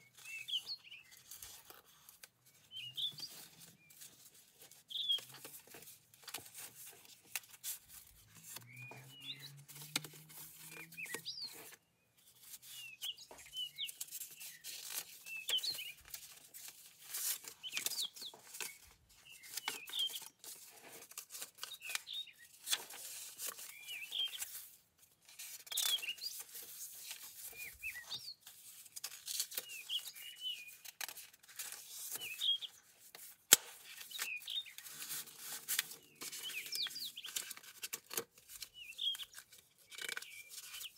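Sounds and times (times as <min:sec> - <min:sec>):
small birds chirping: 0:00.0 - 0:40.9
paper pages rustling: 0:00.1 - 0:40.9.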